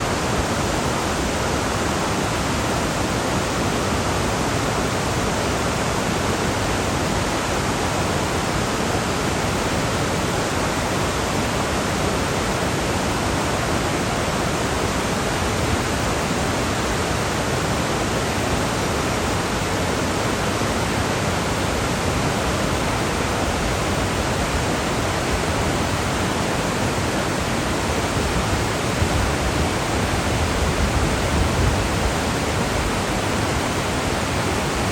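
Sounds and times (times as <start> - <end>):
river rushing over rocks: 0.0 - 34.9.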